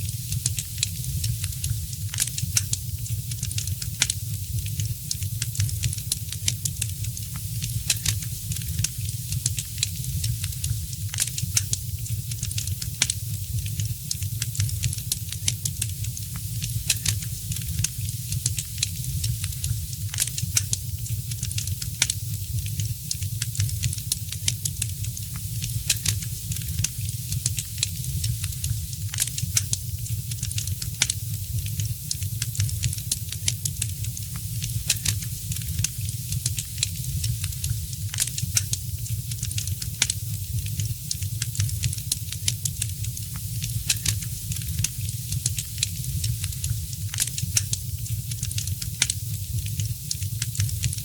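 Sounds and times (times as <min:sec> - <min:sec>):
fire crackling in fireplace: 0:00.0 - 0:51.0.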